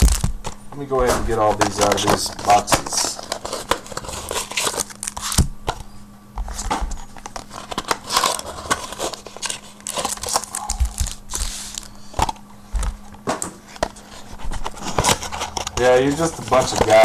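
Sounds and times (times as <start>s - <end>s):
wrappers crinkling and rustling: 0.0s - 5.4s, 6.5s - 11.9s, 13.7s - 17.0s.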